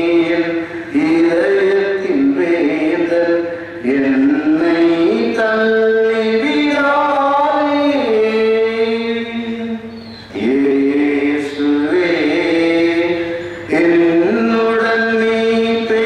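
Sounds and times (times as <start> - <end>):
liturgical chant singing: 0.0 - 16.0.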